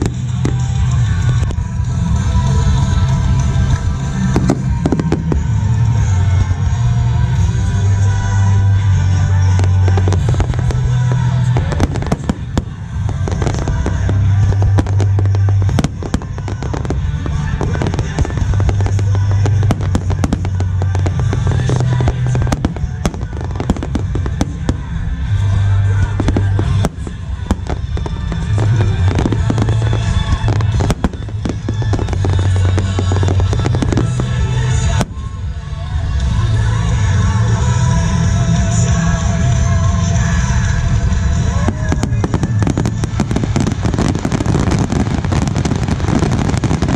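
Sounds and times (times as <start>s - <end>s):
fireworks bangs and crackles: 0.0s - 46.9s
low rumble: 0.0s - 46.9s
music with low bass: 0.0s - 46.9s.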